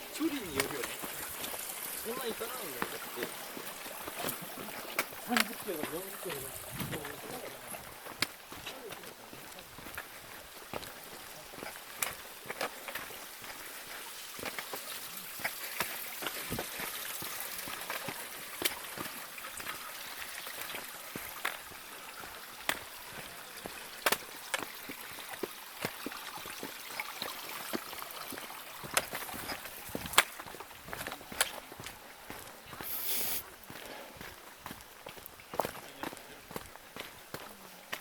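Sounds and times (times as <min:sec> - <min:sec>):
stream flowing: 0:00.0 - 0:38.0
footsteps on stony trail: 0:00.2 - 0:38.0.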